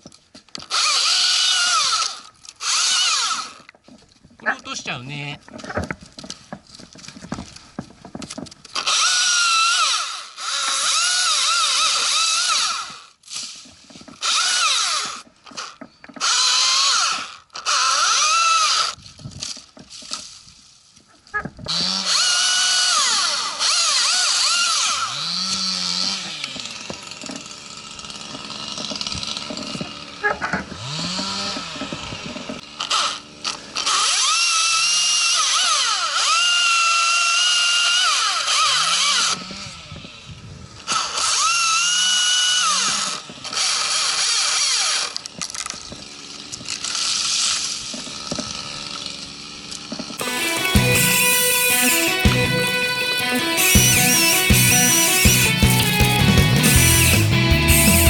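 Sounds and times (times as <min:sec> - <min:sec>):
chainsaw cutting wood: 0:00.0 - 0:04.3, 0:05.5 - 0:20.3, 0:21.5 - 0:58.0.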